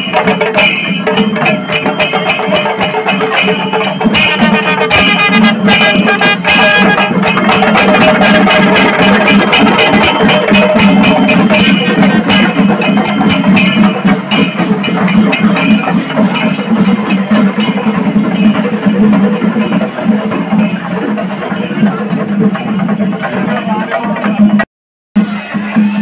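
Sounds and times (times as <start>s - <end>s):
fast cymbal strikes: 0.0s - 24.6s.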